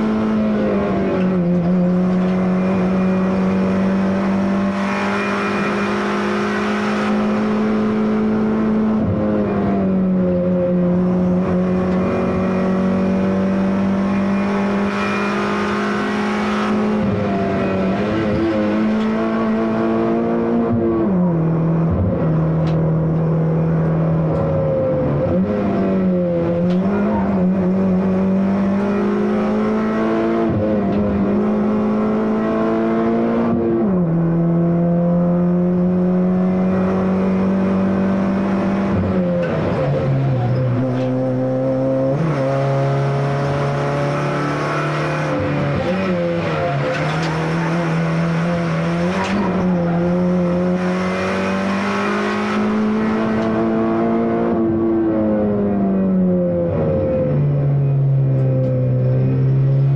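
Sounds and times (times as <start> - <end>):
car engine pulling hard: 0.0 - 59.9.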